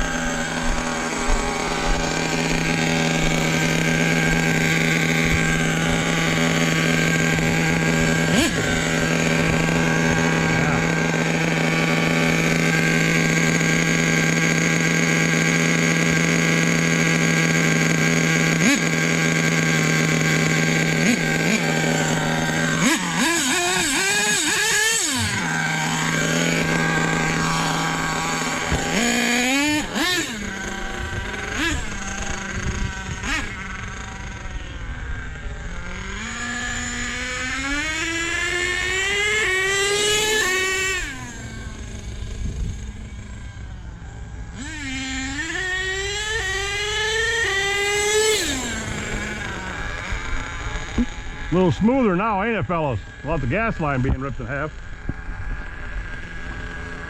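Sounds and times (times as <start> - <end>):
model truck engine revving: 0.0 - 57.0.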